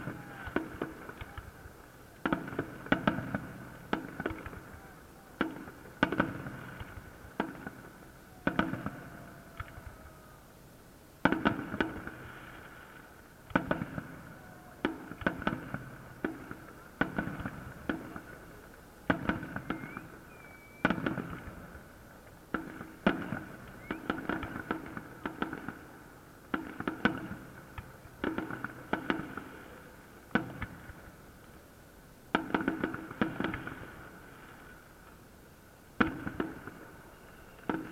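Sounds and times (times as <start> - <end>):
fireworks bangs: 0.0 - 10.0, 11.2 - 31.2, 32.3 - 34.8, 35.9 - 37.9.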